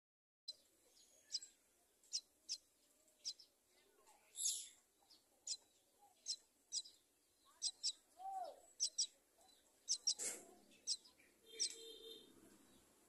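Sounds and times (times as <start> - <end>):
nestlings chirping: 0.5 - 3.6, 4.3 - 12.9.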